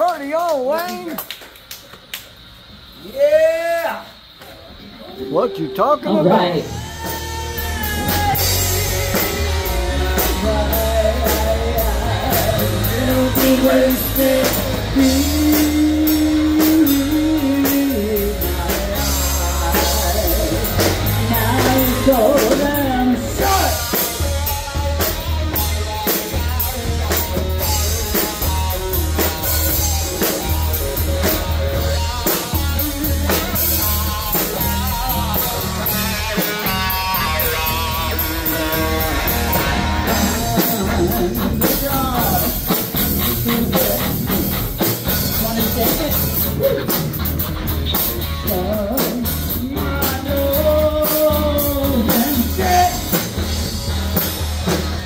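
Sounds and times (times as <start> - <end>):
person singing: 5.0 - 44.6, 47.9 - 53.4
rock band playing: 5.0 - 55.0.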